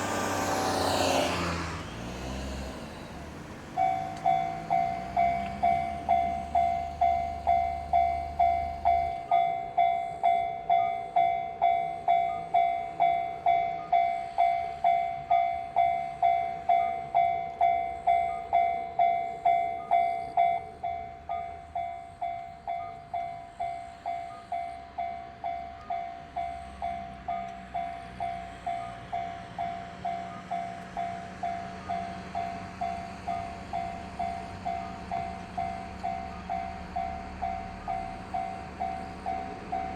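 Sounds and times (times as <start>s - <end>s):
level crossing warning bell: 3.1s - 39.9s.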